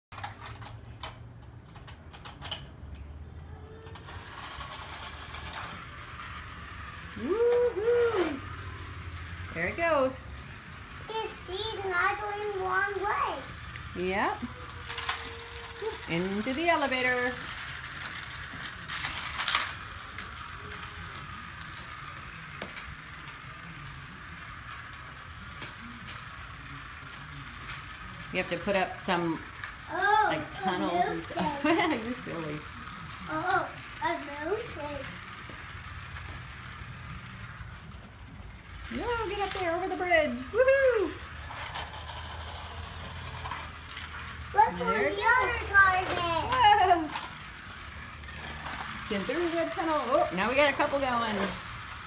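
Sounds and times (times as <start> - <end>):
toy car motor whirring: 0.1 - 52.0.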